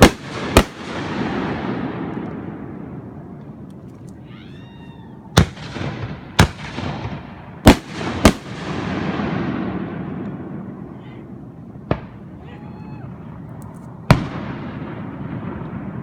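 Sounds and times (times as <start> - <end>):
fireworks booming: 0.0 - 3.6, 5.3 - 16.0.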